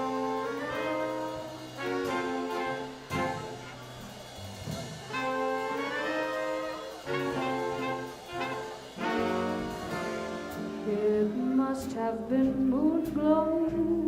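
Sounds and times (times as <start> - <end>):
swing band playing slow ballad: 0.0 - 14.0.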